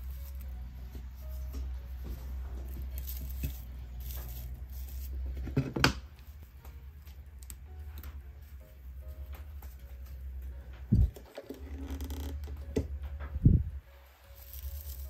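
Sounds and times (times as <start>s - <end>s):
dried flowers rustling and crackling: 0.0s - 12.6s, 13.4s - 15.0s.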